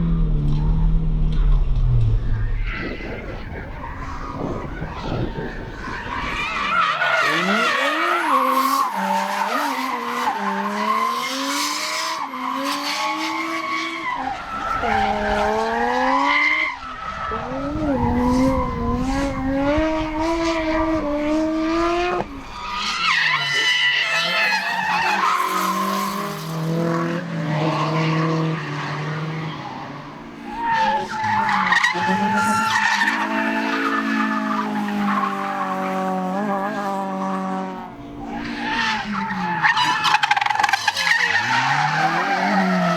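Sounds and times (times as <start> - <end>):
car engines revving: 0.0 - 42.9
tyres skidding: 0.5 - 42.9.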